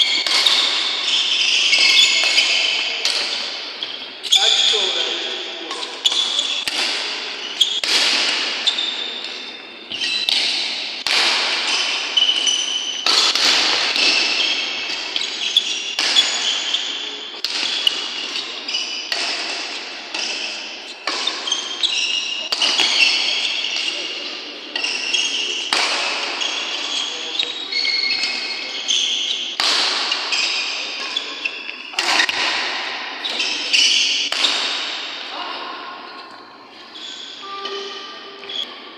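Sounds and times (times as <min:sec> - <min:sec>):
shoes squeaking on wooden floor: 0:00.0 - 0:07.9, 0:08.5 - 0:10.8, 0:11.7 - 0:24.1, 0:24.8 - 0:32.4, 0:36.1 - 0:38.8
racket hitting shuttlecock: 0:00.1 - 0:04.4, 0:05.7 - 0:27.5, 0:28.2 - 0:35.3.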